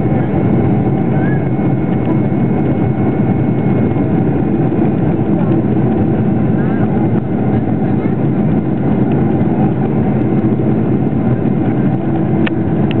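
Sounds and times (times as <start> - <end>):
jet engine and airflow in cabin: 0.0 - 13.0.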